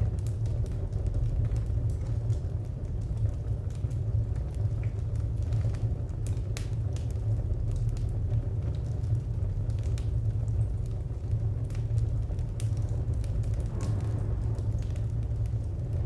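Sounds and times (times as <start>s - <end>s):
steady low rumble: 0.0s - 6.4s, 7.2s - 16.0s
wood fire crackling: 0.0s - 16.0s.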